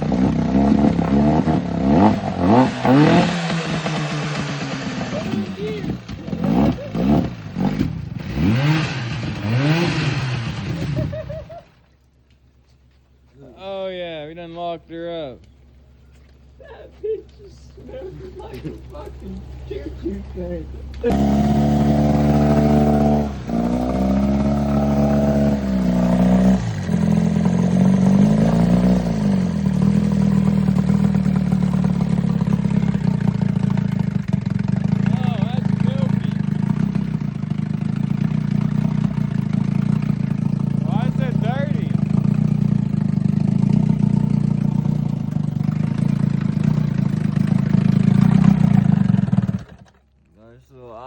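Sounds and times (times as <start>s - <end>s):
outboard motor revving: 0.0s - 12.2s, 17.5s - 51.0s.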